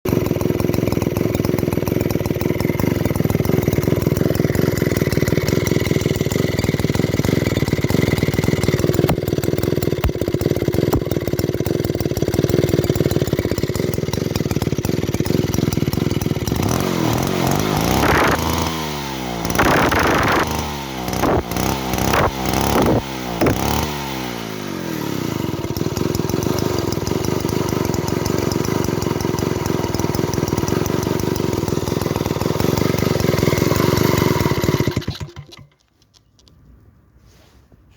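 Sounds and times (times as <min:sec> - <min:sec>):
chainsaw engine idling and revving: 0:00.0 - 0:35.8.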